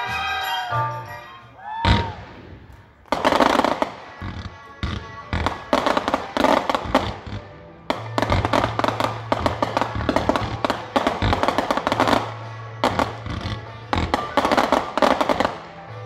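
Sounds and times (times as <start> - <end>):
show music: 0.0 - 16.0
fireworks bangs and crackles: 1.7 - 16.0.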